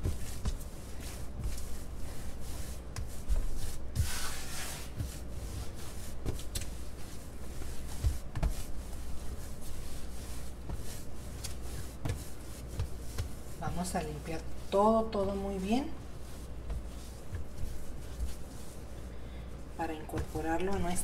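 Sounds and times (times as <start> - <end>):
dough scraping on countertop: 0.0 - 18.9, 19.8 - 21.0
hands kneading dough: 0.0 - 21.0.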